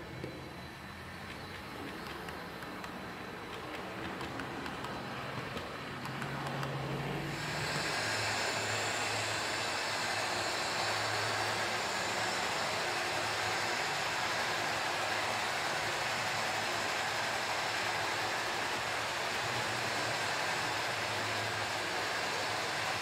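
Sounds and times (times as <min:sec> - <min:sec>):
model train motor hum: 0:00.0 - 0:23.0
wheels rolling on track: 0:00.0 - 0:23.0.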